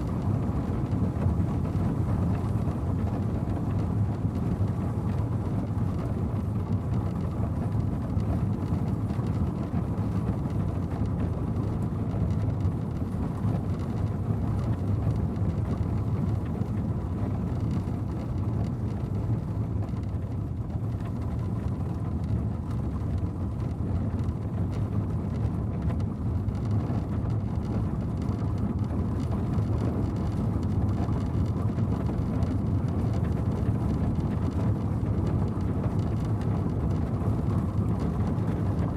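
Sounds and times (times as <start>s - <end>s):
carriage wheels and hooves rumbling: 0.0s - 38.9s.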